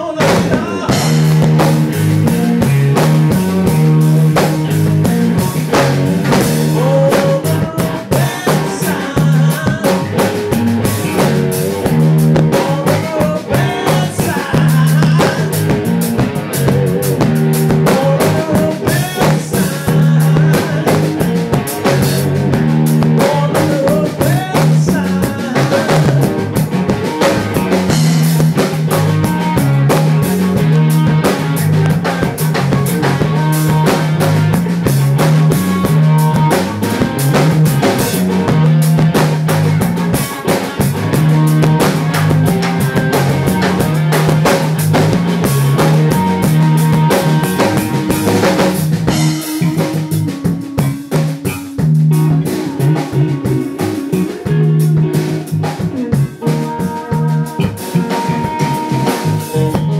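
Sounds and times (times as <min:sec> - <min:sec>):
bass guitar riff: 0:00.0 - 0:59.9
drum kit beat: 0:00.0 - 0:59.9
electric guitar: 0:00.0 - 0:59.9.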